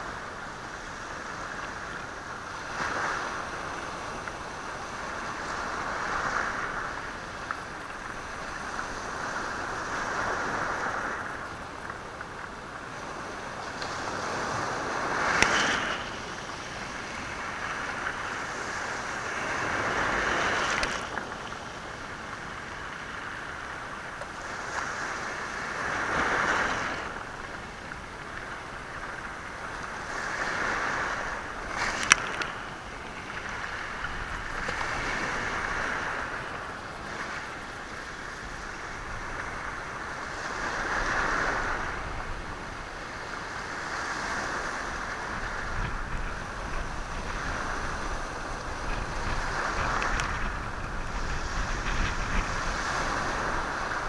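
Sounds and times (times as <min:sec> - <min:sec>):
waves washing over stony shore: 0:00.0 - 0:54.0.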